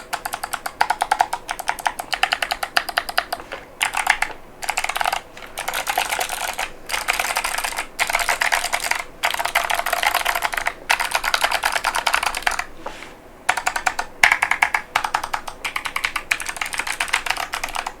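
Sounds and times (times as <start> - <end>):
mechanical keyboard typing: 0.0 - 12.7, 13.5 - 18.0.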